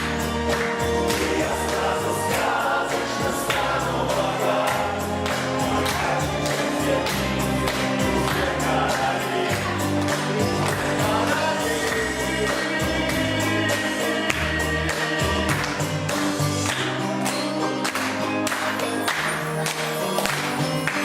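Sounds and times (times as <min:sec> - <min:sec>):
choir-like voices singing: 0:00.0 - 0:17.6
sustained bass notes: 0:00.0 - 0:18.4.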